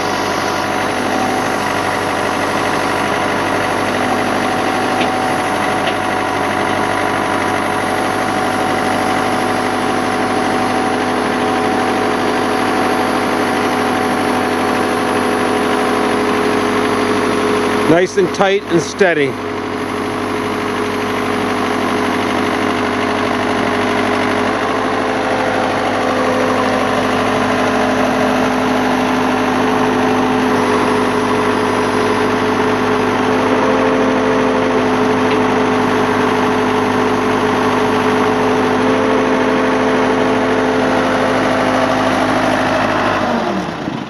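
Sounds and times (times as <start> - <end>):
backhoe engine running: 0.0 - 44.0.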